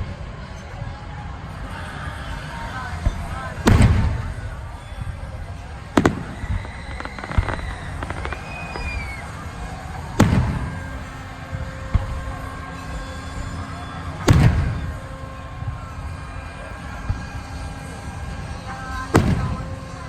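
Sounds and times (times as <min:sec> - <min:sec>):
fireworks whistle: 0:00.5 - 0:20.0
fireworks booming: 0:02.8 - 0:20.0
fireworks cracks: 0:02.9 - 0:20.0.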